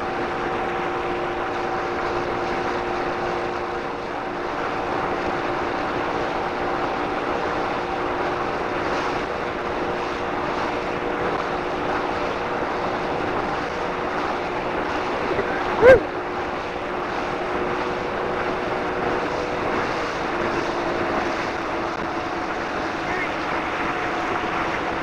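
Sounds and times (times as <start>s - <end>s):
boat engine droning: 0.0s - 25.0s
water rushing: 0.0s - 25.0s.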